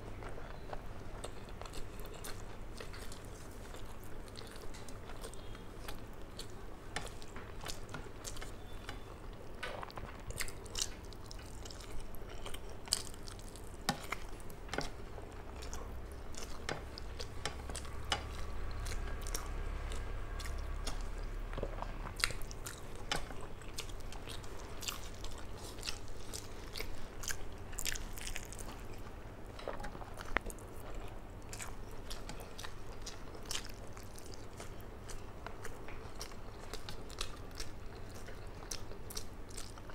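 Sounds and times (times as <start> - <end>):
person chewing: 0.2 - 39.9.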